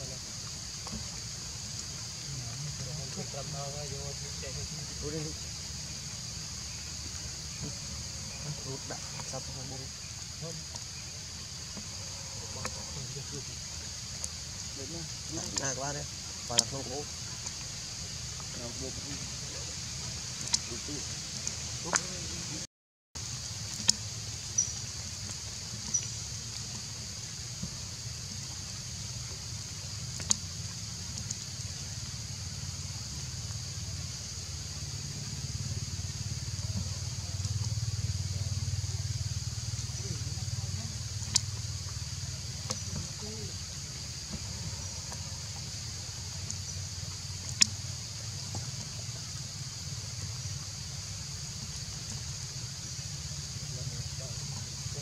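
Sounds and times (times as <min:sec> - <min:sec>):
high insect drone: 0:00.0 - 0:55.0
high-pitched hiss: 0:00.0 - 0:55.0.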